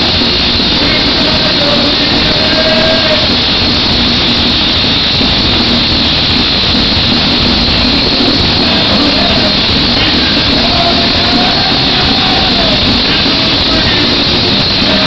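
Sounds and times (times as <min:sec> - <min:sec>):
distorted live band and crowd: 0:00.0 - 0:15.0.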